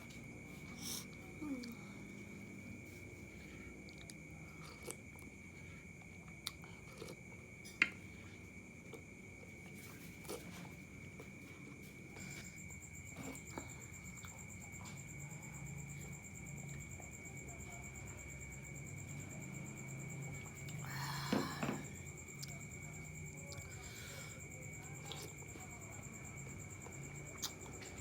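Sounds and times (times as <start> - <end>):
crickets trilling: 0.0 - 28.0
higher insect trill: 0.0 - 28.0.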